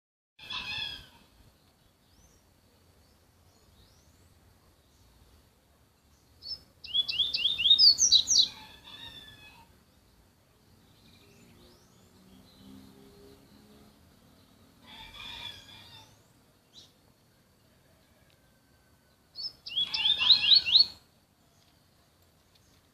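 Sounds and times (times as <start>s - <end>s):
small bird singing: 0.4s - 17.1s, 18.8s - 22.9s.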